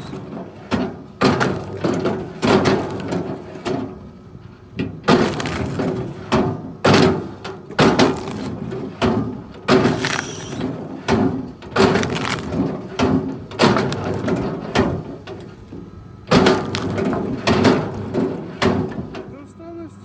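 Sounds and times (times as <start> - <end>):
heavy knocks and cracks: 0.0 - 4.0, 4.8 - 19.3.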